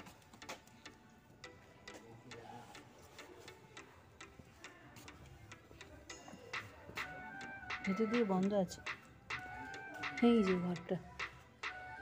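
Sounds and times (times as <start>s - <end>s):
faint irregular ticking clicks: 0.0s - 12.0s.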